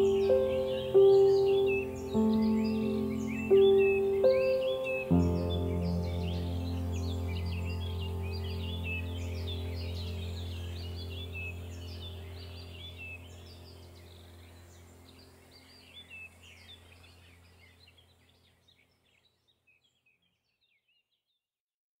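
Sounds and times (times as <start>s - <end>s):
low steady hum: 0.0s - 18.2s
small birds chirping: 0.0s - 21.4s.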